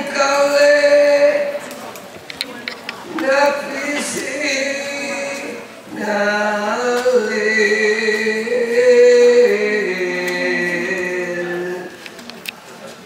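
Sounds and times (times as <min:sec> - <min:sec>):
person singing unaccompanied: 0:00.0 - 0:01.9, 0:03.0 - 0:12.2.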